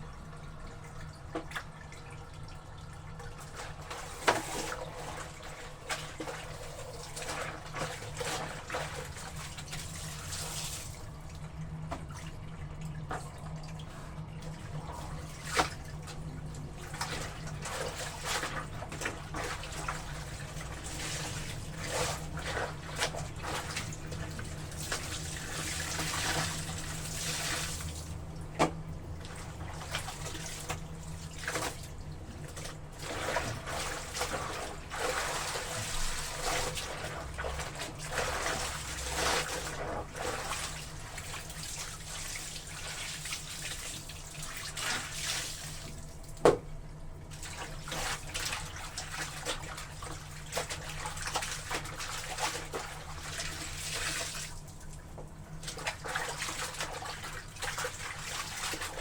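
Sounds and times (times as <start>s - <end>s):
water sloshing and splashing: 0.0s - 59.0s.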